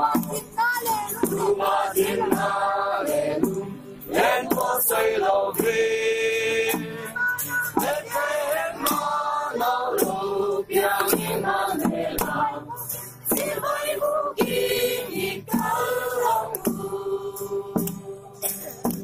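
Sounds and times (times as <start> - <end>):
group singing a carol: 0.0 - 19.0
sharp beats keeping time: 0.2 - 18.1.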